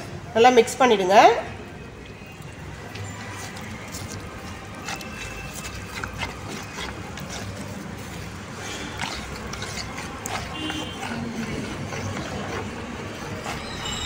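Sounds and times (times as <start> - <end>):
spoon scraping plastic bowl: 2.3 - 14.0.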